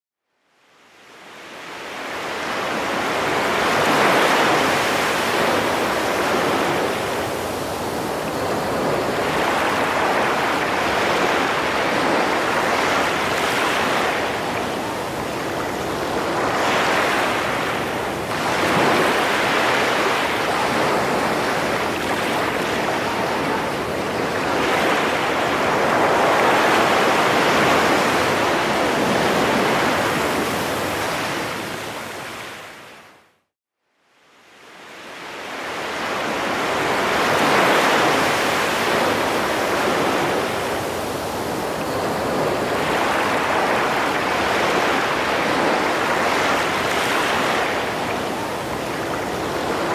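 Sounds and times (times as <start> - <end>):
ocean waves breaking: 1.2 - 33.1, 34.8 - 49.9.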